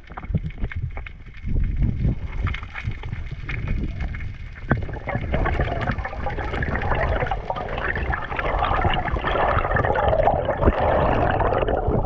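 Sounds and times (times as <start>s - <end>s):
water sloshing and splashing: 2.1s - 12.0s.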